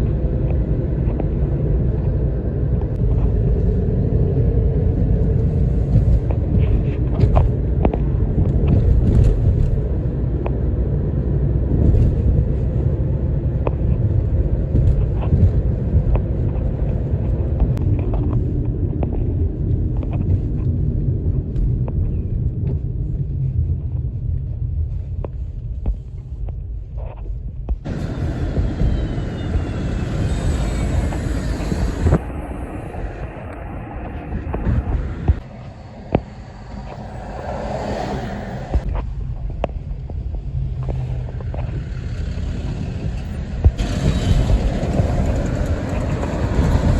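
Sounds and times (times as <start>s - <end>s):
highway traffic rumble: 0.0s - 46.9s.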